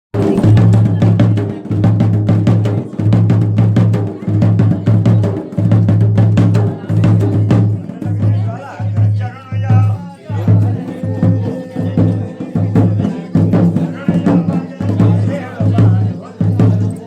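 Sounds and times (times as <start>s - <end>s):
fast drumming: 0.1s - 17.0s
deep low drum tone: 0.2s - 16.9s.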